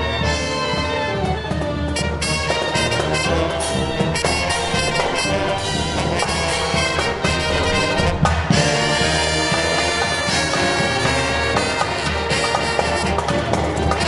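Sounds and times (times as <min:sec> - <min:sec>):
marching brass band playing: 0:00.0 - 0:14.0.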